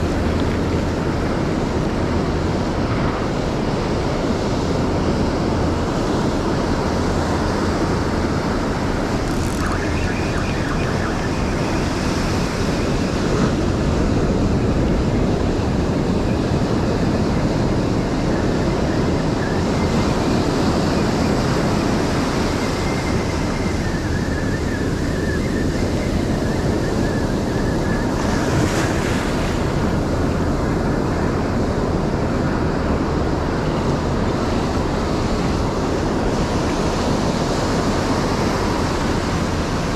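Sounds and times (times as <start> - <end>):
ocean surf on beach: 0.0 - 39.9
wind on microphone: 0.0 - 39.9.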